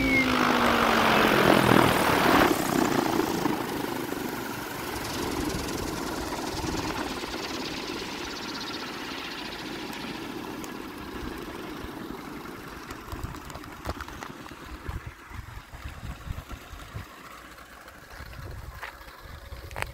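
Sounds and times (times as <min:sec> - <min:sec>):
helicopter rotor whirring: 0:00.0 - 0:19.9.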